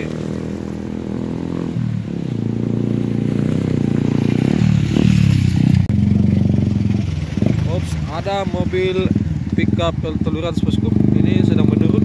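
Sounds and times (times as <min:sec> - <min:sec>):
deep vehicle engine: 0:00.0 - 0:12.0
motorcycle engines running: 0:00.0 - 0:12.0.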